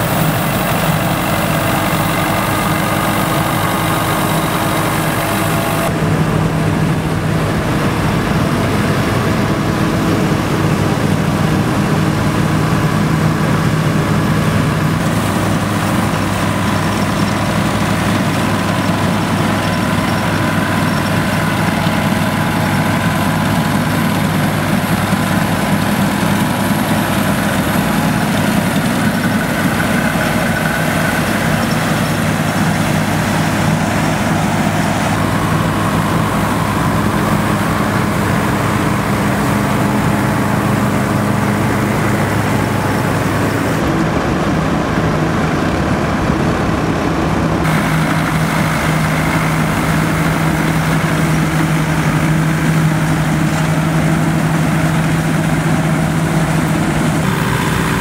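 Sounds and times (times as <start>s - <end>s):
combine harvester threshing machinery: 0.0s - 58.0s
tractor engines running under load: 0.0s - 58.0s.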